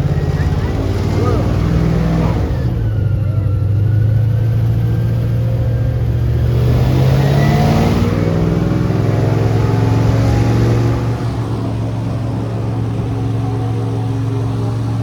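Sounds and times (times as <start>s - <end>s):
airboat engine revving: 0.0s - 15.0s.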